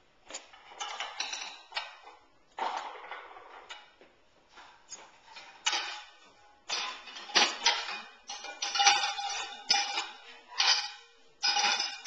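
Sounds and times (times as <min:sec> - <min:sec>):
dishes clinking and clattering: 0:00.3 - 0:04.0, 0:04.8 - 0:12.0.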